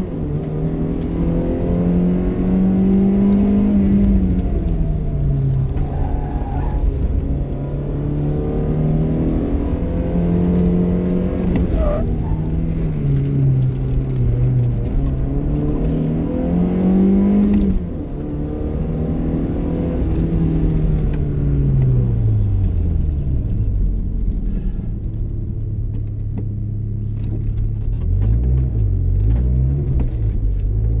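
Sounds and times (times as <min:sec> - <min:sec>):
car engine revving from inside: 0:00.0 - 0:31.0.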